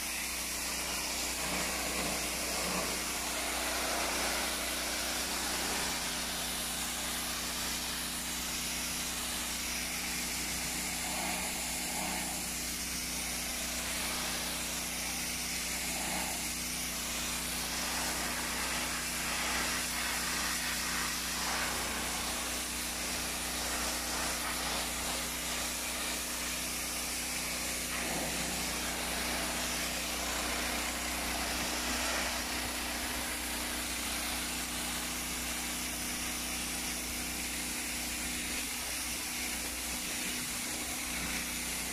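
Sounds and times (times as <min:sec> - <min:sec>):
pressure washer engine hum: 0:00.0 - 0:41.9
water jet hissing on concrete: 0:00.0 - 0:41.9.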